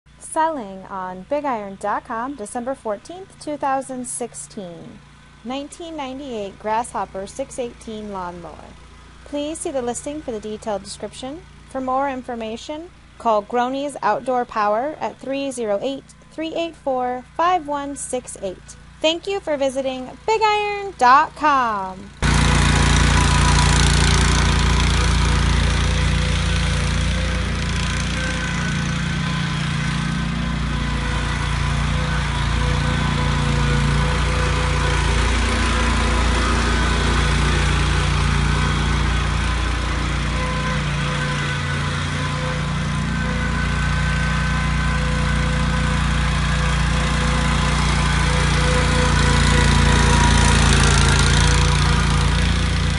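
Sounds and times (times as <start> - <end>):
mower engine running: 0.1 - 52.9.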